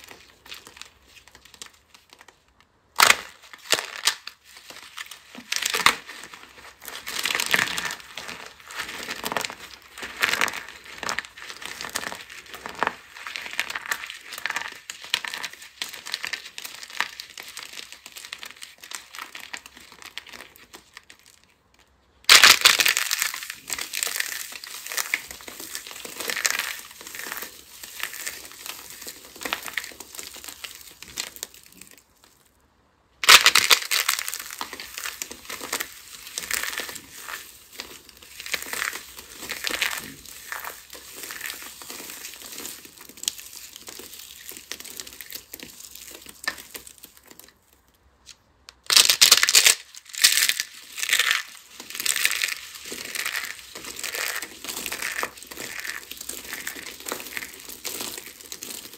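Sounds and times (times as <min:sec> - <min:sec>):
dry soap crunching: 0:00.0 - 0:32.5, 0:33.2 - 0:48.0, 0:48.7 - 0:58.9.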